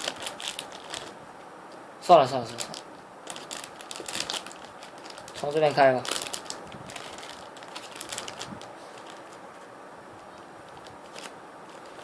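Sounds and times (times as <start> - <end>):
plastic bag crinkling: 0.0 - 1.2, 2.4 - 9.7, 10.6 - 12.0.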